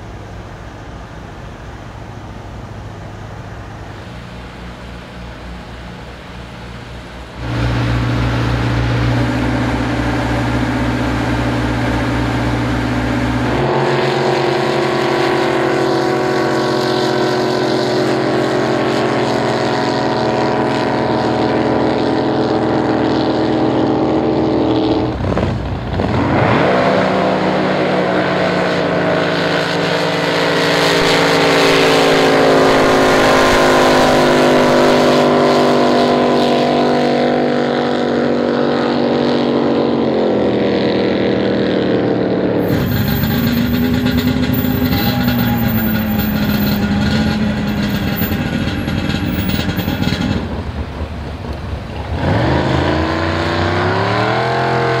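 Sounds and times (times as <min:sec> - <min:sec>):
boat engines at full throttle: 0:00.0 - 0:55.0
lower engine running: 0:00.0 - 0:55.0.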